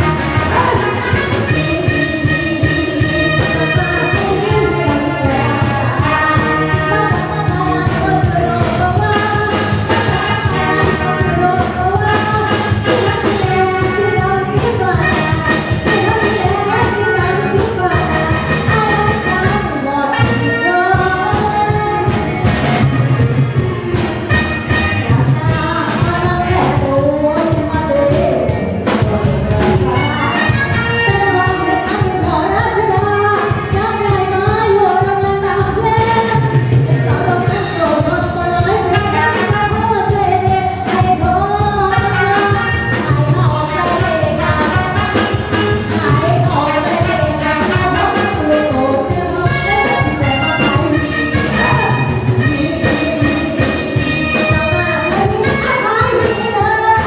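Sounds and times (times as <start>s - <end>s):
woman singing into a microphone: 0.0s - 22.6s, 24.7s - 57.0s
live band playing upbeat song: 0.0s - 57.0s.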